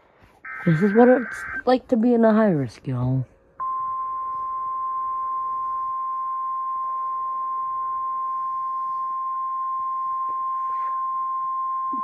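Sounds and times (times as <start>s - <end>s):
steady alarm tone: 0.4s - 1.8s, 3.6s - 12.0s.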